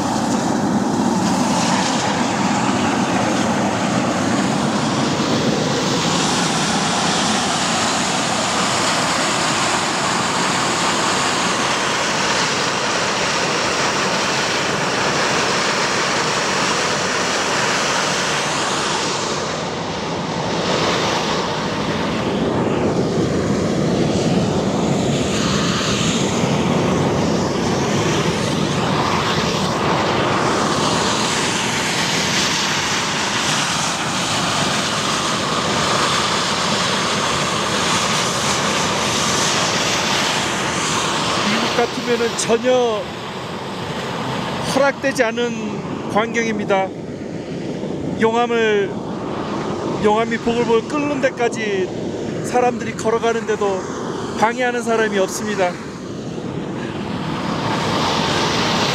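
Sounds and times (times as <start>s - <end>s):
steam jetting with rushing hiss: 0.0s - 23.3s, 24.0s - 46.0s, 53.6s - 58.9s.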